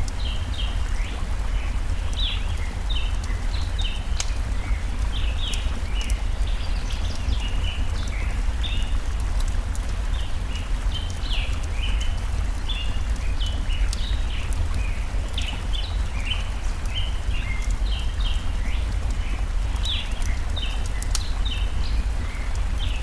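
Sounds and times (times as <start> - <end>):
small birds chirping: 0.0 - 23.0
stream water rushing: 0.0 - 23.0
wood fire crackling: 0.0 - 23.0.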